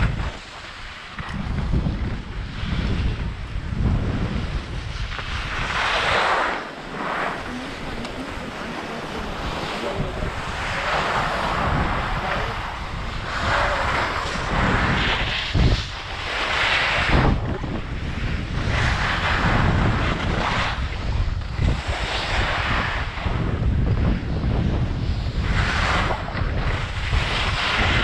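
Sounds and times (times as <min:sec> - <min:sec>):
skis scraping over snow: 0:00.0 - 0:23.4, 0:24.2 - 0:28.0
wind buffeting microphone: 0:00.0 - 0:28.0.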